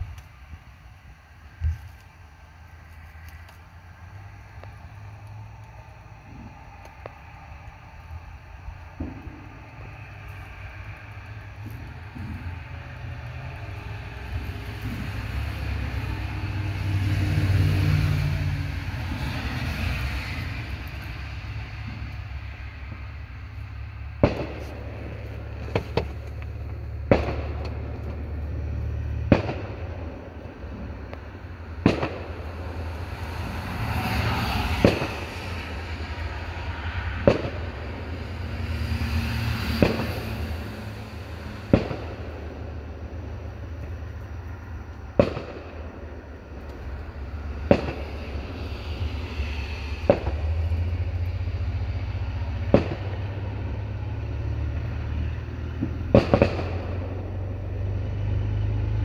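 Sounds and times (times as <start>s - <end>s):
low rumble: 0.0s - 59.0s
hissing wash: 4.1s - 55.4s
fireworks bangs: 6.2s - 57.6s.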